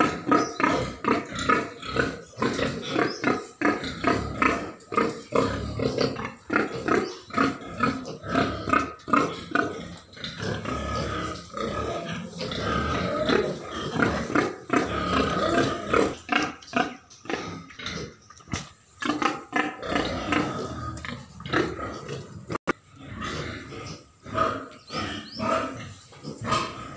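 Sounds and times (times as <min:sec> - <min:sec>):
pigs grunting: 0:00.0 - 0:26.9.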